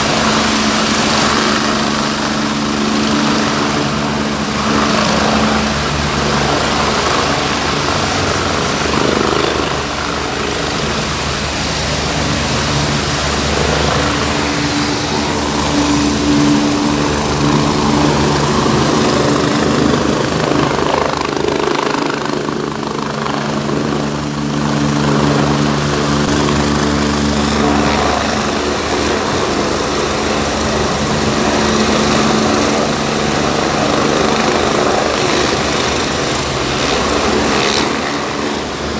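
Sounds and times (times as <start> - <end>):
helicopter turbine and rotor drone: 0.0 - 38.9.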